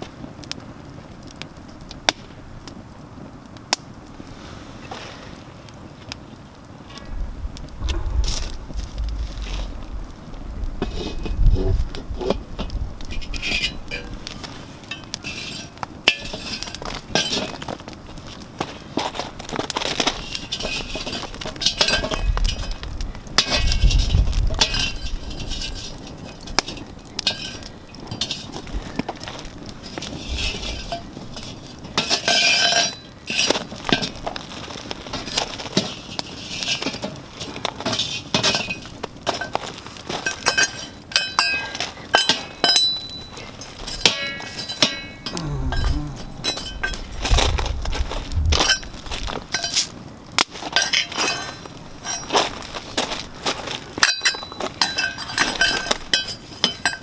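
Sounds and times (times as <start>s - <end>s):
campfire crackling and popping: 0.0s - 57.0s
low rumble of fire: 0.0s - 57.0s.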